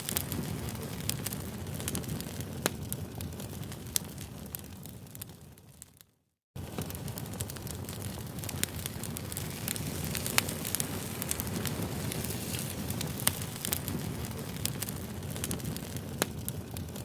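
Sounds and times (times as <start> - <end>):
campfire crackling: 0.0 - 6.0, 6.6 - 17.0.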